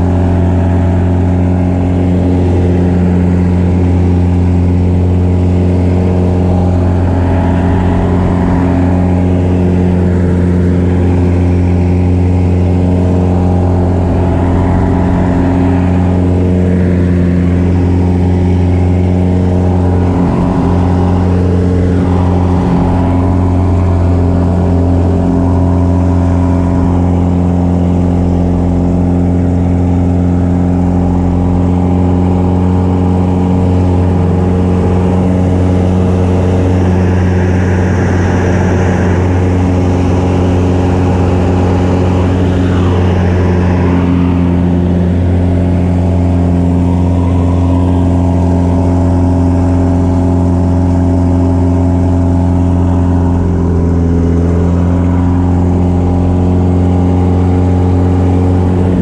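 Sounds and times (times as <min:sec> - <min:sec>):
propeller plane engine: 0:00.0 - 0:59.0.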